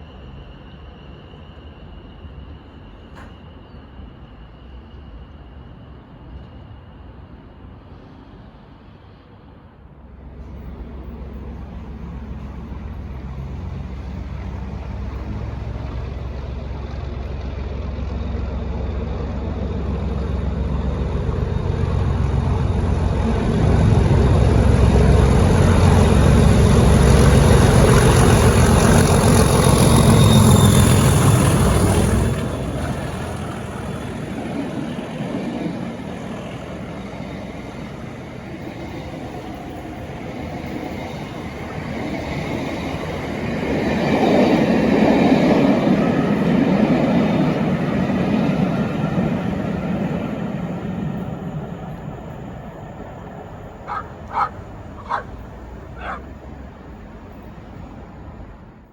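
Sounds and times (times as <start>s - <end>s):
diesel locomotive engine under load: 0.0s - 58.9s.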